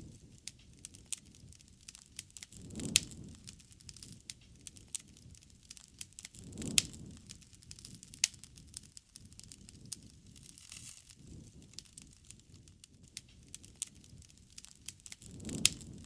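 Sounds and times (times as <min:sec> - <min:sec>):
flames whooshing: 0:00.0 - 0:16.0
wood fire crackling and popping: 0:00.0 - 0:16.0.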